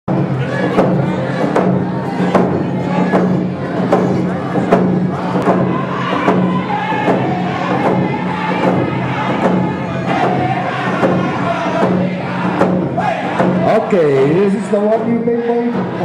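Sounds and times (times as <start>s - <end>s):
crowd chatter: 0.1s - 16.0s
hand drums beating: 0.1s - 16.0s
group singing: 0.3s - 16.0s.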